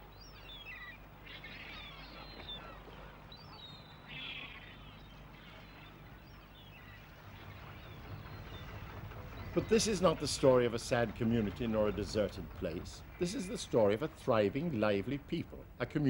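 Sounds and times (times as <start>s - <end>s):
birds chirping: 0.0s - 16.0s
faint low hum: 0.0s - 16.0s.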